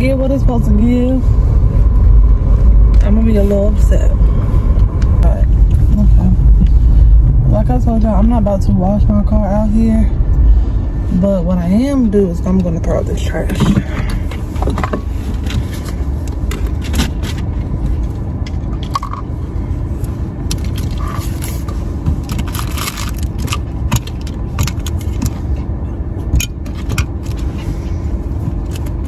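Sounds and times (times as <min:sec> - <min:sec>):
car engine humming: 0:00.0 - 0:29.0.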